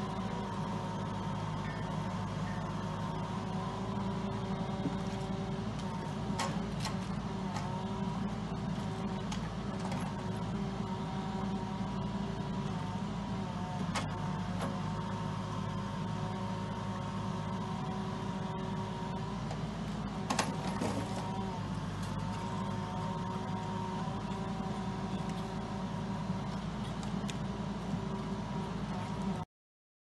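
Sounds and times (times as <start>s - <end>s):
hydraulic whine: 0.0s - 29.4s
diesel engine running: 0.0s - 29.5s.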